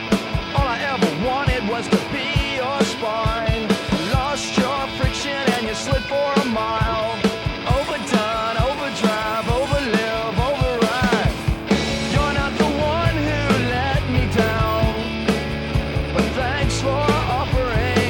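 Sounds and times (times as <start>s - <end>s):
drums: 0.0s - 18.0s
heavy bass line: 0.0s - 18.0s
person singing: 0.6s - 15.3s, 16.1s - 18.0s.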